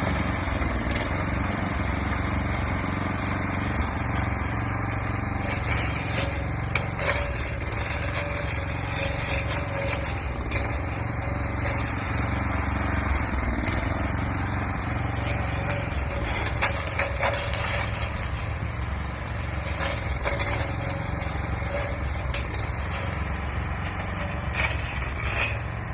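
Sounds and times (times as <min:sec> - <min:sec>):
lawn mower engine running: 0:00.0 - 0:25.9
branches crackling and snapping: 0:04.0 - 0:25.5.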